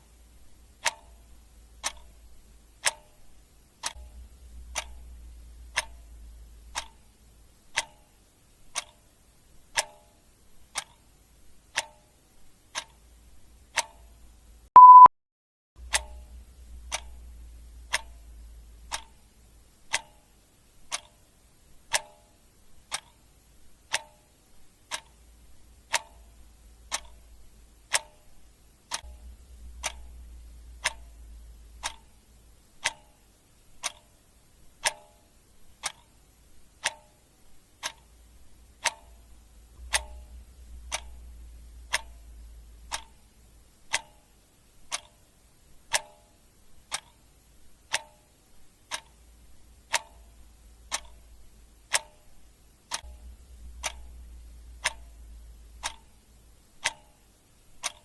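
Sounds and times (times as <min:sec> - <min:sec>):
faint low rumble: 0:00.0 - 0:09.8, 0:15.8 - 0:21.9, 0:22.6 - 0:46.0, 0:48.5 - 0:58.0
clock ticking: 0:00.0 - 0:15.1, 0:15.8 - 0:58.0.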